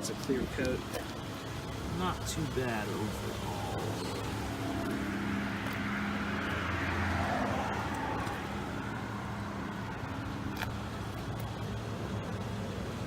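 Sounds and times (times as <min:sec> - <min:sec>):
road vehicle hum: 0:00.0 - 0:13.0
car passing: 0:01.5 - 0:13.0.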